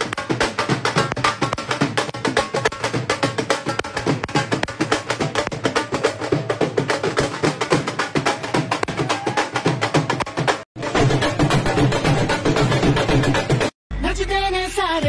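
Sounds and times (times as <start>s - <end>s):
fast dhol drumming: 0.0s - 13.7s
music: 0.0s - 15.0s.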